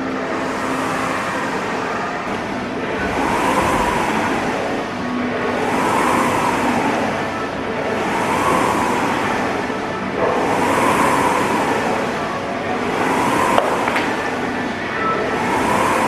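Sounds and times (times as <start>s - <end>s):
rowing machine flywheel whooshing: 0.0s - 16.0s.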